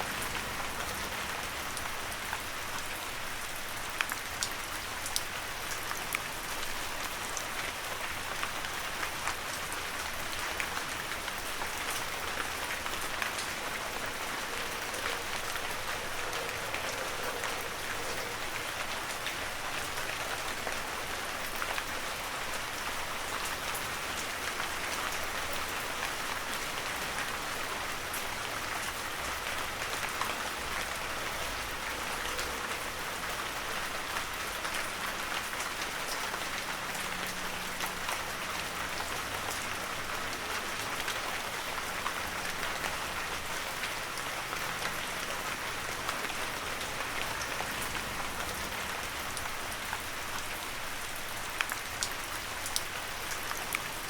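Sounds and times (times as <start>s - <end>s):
heavy rain hiss: 0.0s - 4.0s, 10.8s - 54.0s.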